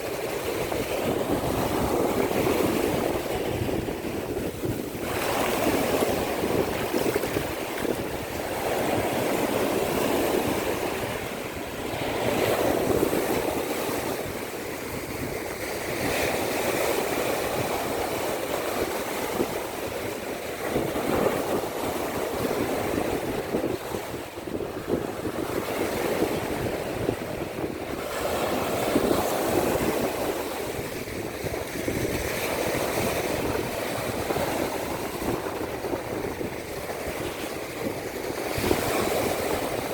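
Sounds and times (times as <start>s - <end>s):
waves breaking on shore: 0.0s - 39.9s
wind buffeting microphone: 0.0s - 39.9s.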